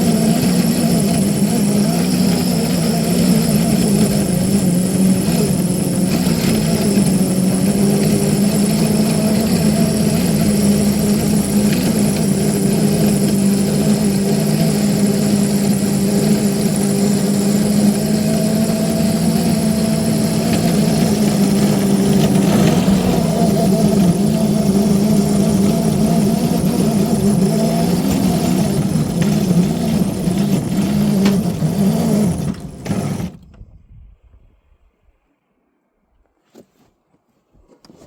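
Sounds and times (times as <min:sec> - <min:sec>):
locomotive motor droning: 0:00.0 - 0:33.6.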